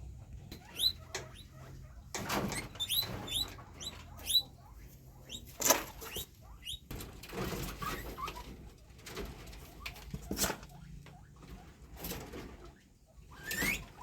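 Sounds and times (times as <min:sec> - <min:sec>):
guinea pigs squeaking: 0:00.0 - 0:14.0.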